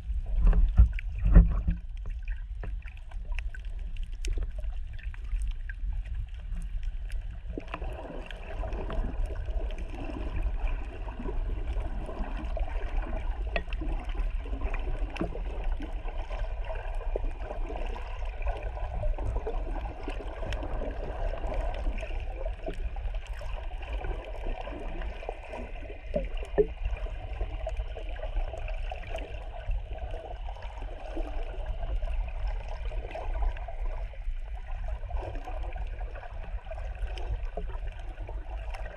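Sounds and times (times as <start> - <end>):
low underwater rumble: 0.0 - 38.9
shifting wash of water: 6.3 - 38.9.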